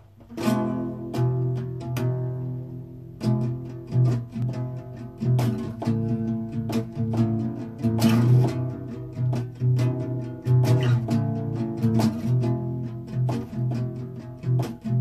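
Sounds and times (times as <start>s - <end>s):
plucked guitar notes and chords: 0.2s - 15.0s.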